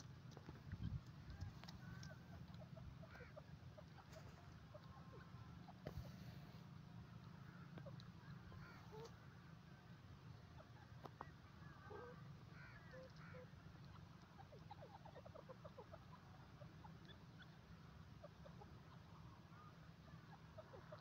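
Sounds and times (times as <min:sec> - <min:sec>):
soft bird chirps and twitters: 0:00.2 - 0:09.4, 0:10.2 - 0:21.0.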